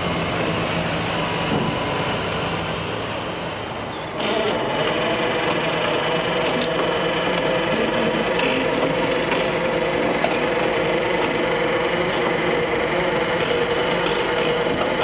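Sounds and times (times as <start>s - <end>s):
tractor engine and unloading gear droning: 0.0s - 15.0s.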